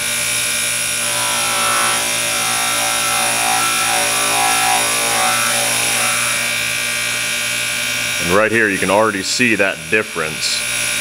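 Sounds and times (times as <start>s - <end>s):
electric motor hum and whine: 0.0s - 11.0s.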